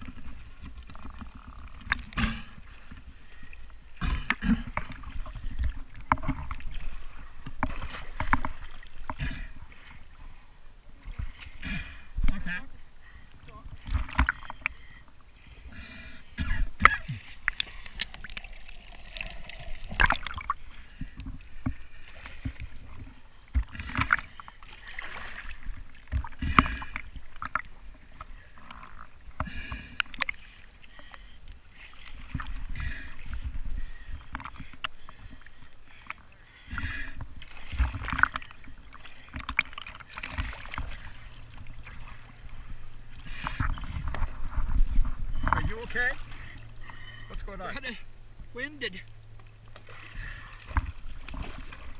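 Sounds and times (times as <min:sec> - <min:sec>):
water splashing and sloshing: 0:00.0 - 0:51.9.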